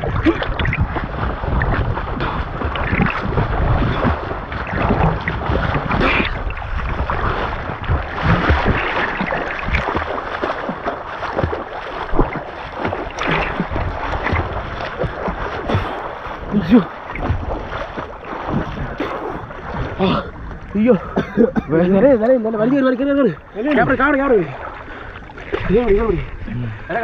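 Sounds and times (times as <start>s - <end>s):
water splashing from swimming: 0.0s - 27.0s.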